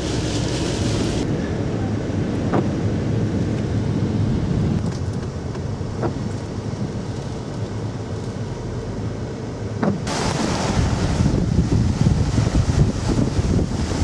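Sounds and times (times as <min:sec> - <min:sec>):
storm wind on microphone: 0:00.0 - 0:14.0.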